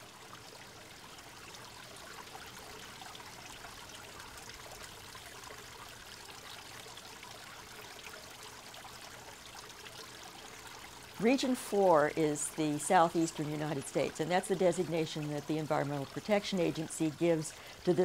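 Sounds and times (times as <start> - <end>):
running water trickling: 0.0 - 18.0.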